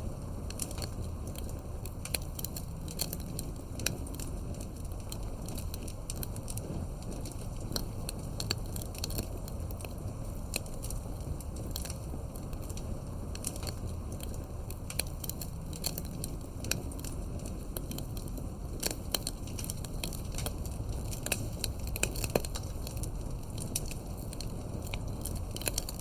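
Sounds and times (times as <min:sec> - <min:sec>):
campfire crackling and popping: 0:00.0 - 0:26.0
low rumble of flames: 0:00.0 - 0:26.0.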